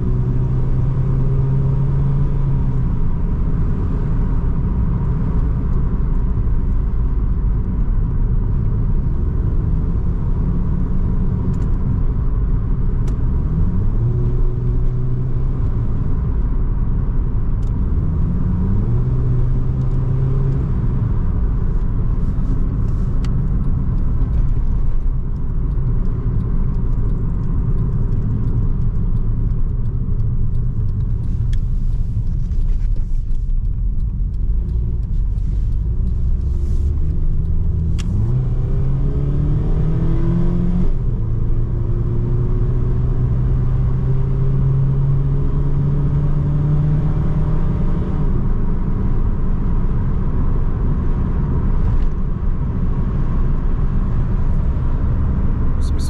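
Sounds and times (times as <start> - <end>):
car engine from inside cabin: 0.0 - 56.0
road and tyre noise: 0.0 - 56.0.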